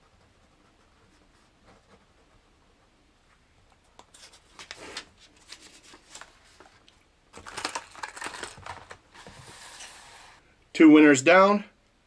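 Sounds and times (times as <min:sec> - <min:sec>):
rubbing and rustling: 0:00.0 - 0:10.4.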